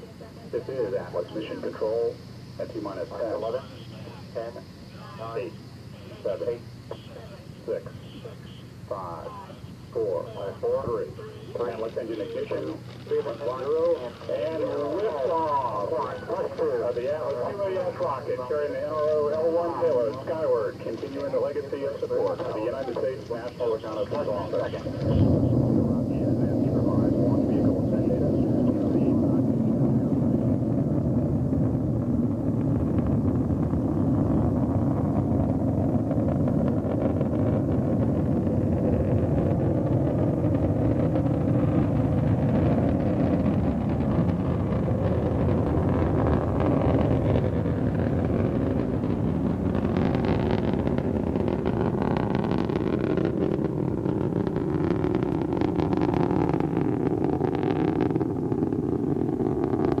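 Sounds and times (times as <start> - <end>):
distant rocket engine rumble: 0.0 - 60.0.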